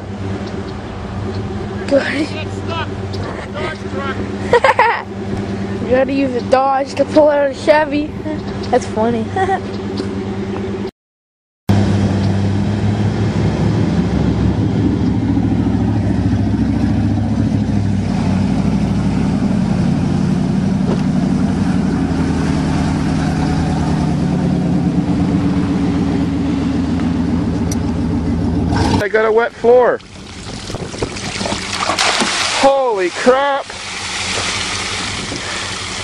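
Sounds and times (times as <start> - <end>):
pickup truck engine running: 0.0 - 10.9, 11.7 - 36.0.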